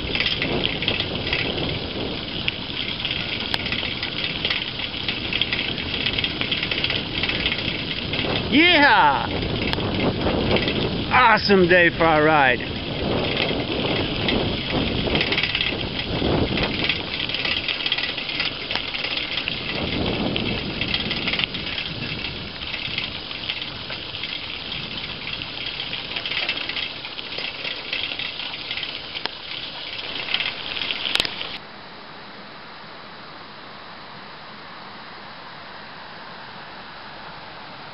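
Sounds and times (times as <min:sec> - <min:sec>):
bicycle tyres rolling on gravel: 0:00.0 - 0:31.6.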